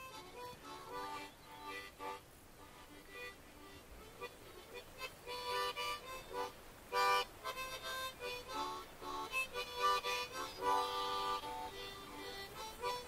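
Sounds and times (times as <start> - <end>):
harmonica music: 0.0 - 13.0.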